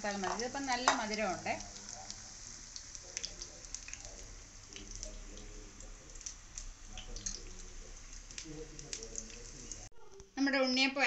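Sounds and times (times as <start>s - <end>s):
batter deep-frying in hot oil: 0.0s - 11.0s.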